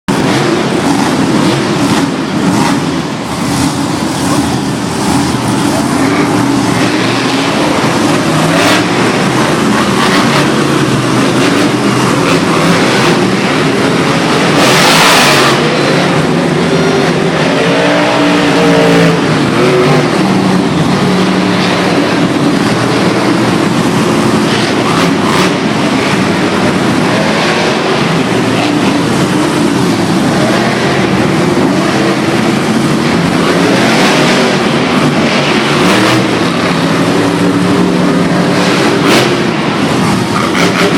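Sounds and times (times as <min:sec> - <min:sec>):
truck engines running: 0:00.0 - 0:40.9.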